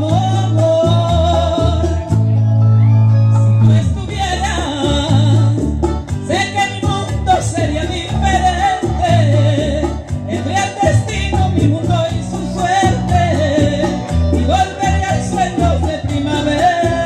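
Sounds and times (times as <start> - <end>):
woman singing into a microphone: 0.0 - 2.4, 3.3 - 17.0
karaoke backing music: 0.0 - 17.0.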